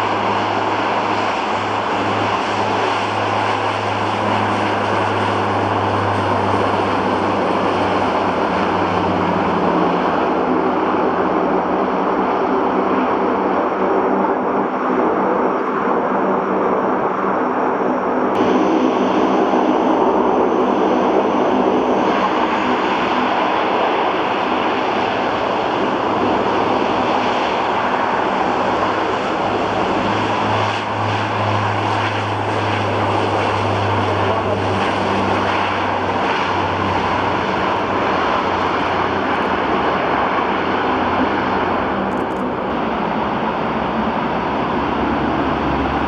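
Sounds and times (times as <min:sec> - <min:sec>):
turboprop aircraft engines roaring: 0:00.0 - 0:46.0.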